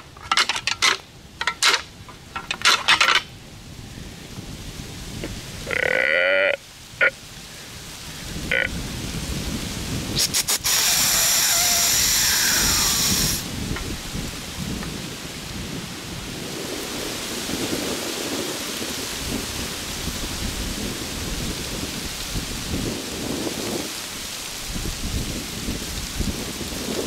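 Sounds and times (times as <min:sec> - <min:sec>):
wind buffeting microphone: 0:00.0 - 0:05.8, 0:06.8 - 0:27.0.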